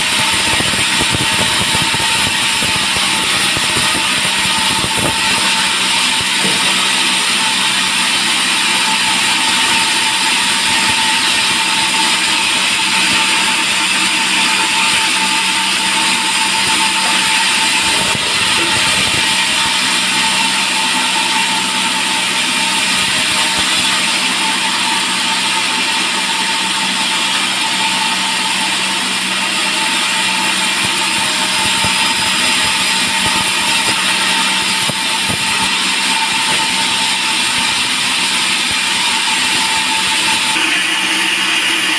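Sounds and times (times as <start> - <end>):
band saw cutting log: 0.0 - 41.9
sawmill motor whine: 0.0 - 41.9.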